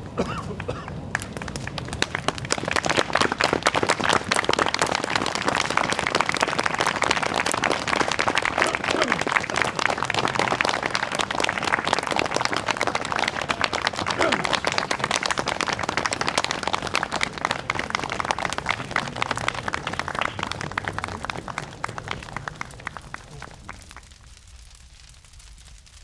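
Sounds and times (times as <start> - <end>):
audience applauding: 0.0 - 24.3.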